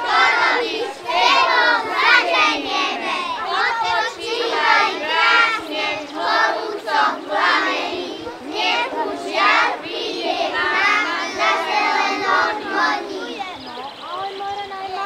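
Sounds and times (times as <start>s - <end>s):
young children singing folk song: 0.0s - 13.7s.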